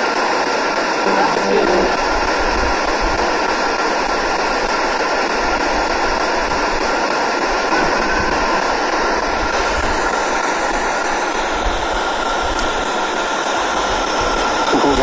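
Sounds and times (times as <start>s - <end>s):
loud static hiss: 0.0s - 15.0s.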